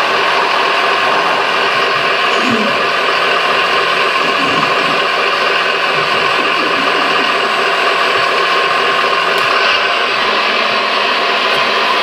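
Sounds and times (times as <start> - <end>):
model excavator whining: 0.0 - 12.0.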